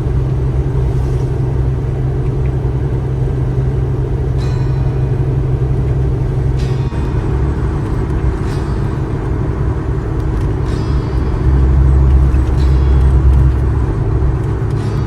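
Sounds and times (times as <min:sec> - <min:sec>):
car engine rumble: 0:00.0 - 0:15.0
road noise inside cabin: 0:00.0 - 0:15.0.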